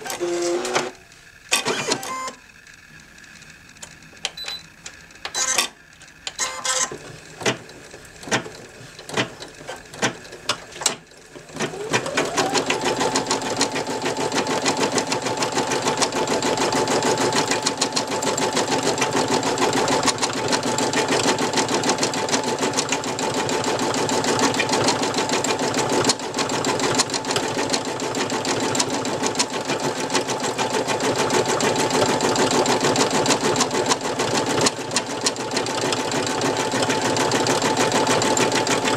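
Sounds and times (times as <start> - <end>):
embroidery machine stitching: 0.0 - 2.4, 3.4 - 38.9.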